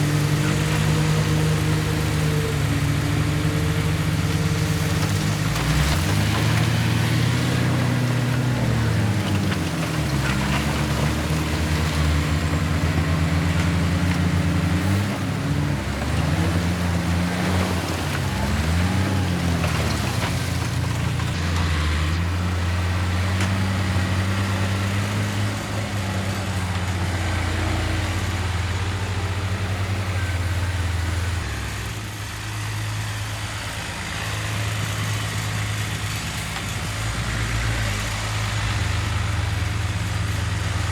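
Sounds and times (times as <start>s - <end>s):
heavy diesel engines revving: 0.0s - 40.9s.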